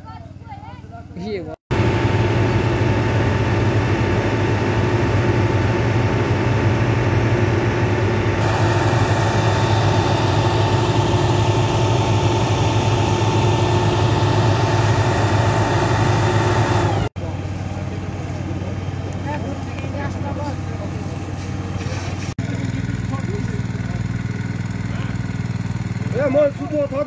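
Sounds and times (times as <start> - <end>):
truck engine running steadily: 0.0 - 27.0.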